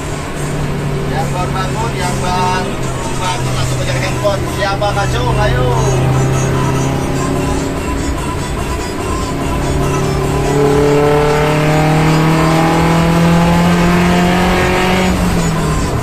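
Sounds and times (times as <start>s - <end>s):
vehicle engine accelerating: 0.0s - 16.0s.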